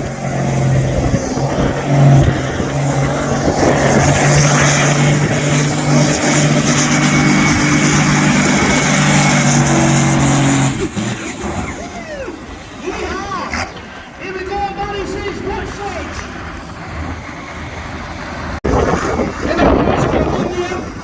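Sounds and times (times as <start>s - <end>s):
tractor engine under full load: 0.0s - 21.0s.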